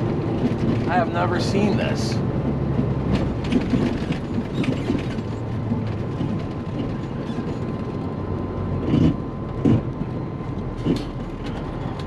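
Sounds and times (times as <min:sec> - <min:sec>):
cab clicks and rattles: 0:00.0 - 0:12.0
diesel truck engine running: 0:00.0 - 0:12.0.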